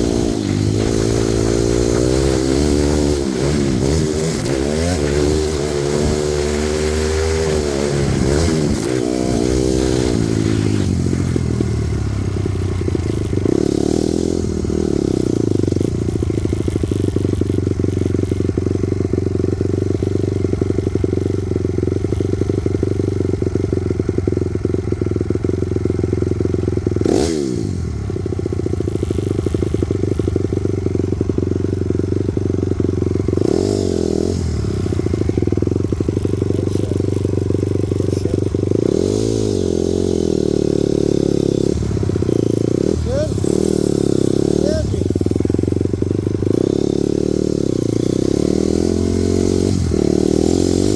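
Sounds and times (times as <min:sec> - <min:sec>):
dirt bike engine revving: 0:00.0 - 0:24.0, 0:25.7 - 0:50.9.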